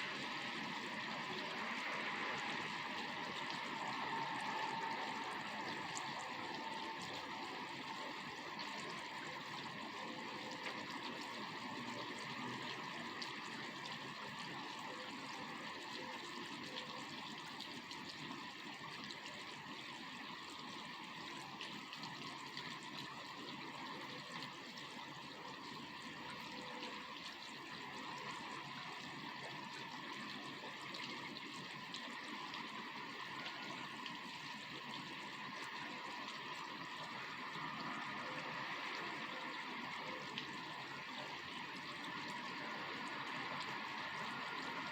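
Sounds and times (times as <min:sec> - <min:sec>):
rain falling steadily: 0:00.0 - 0:44.9.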